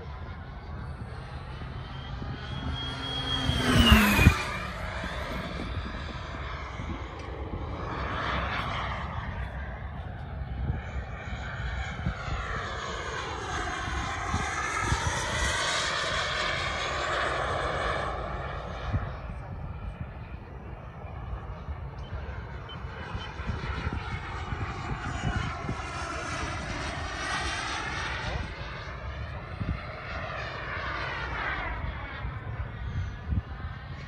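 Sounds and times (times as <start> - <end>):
model jet turbine whine: 0.0 - 34.0.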